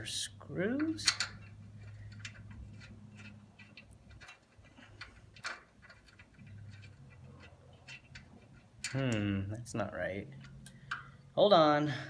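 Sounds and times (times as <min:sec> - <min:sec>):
small metal parts clicking: 0:00.7 - 0:09.5, 0:10.3 - 0:11.3.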